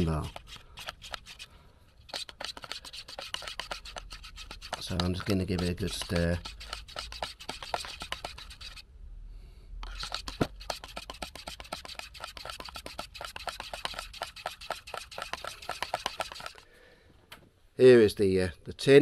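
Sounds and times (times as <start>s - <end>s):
stirrer scraping metal paint tin: 0.0s - 8.8s, 9.8s - 16.6s.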